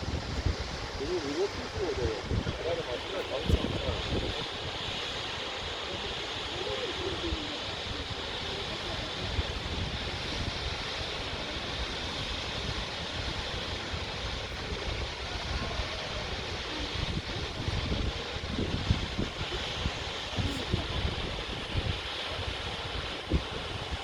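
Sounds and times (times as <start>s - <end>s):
wind buffeting microphone: 0.0s - 24.0s
waterfall roaring: 0.4s - 24.0s.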